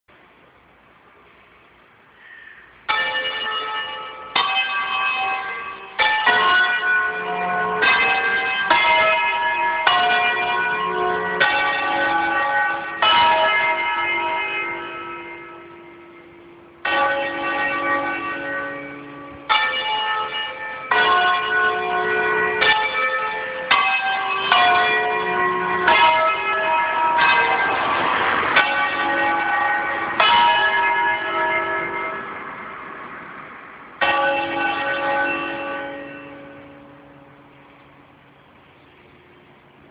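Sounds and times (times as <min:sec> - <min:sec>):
church bells pealing: 0:02.8 - 0:39.9.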